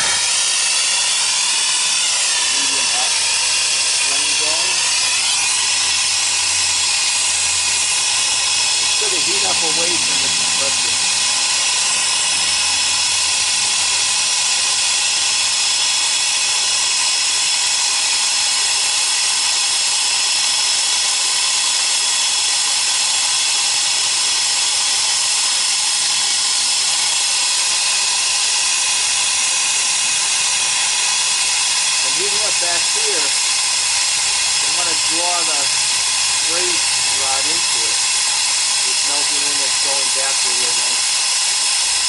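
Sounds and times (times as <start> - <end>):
brazing torch hissing: 0.0 - 42.0.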